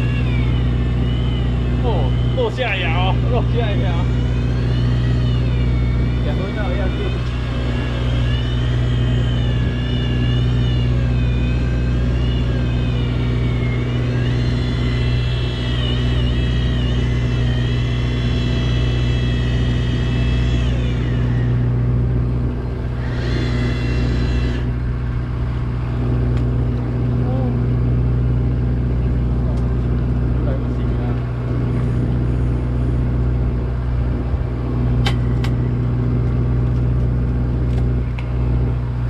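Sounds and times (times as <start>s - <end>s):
boat engine humming: 0.0s - 39.0s
high wavering whine: 0.0s - 39.0s.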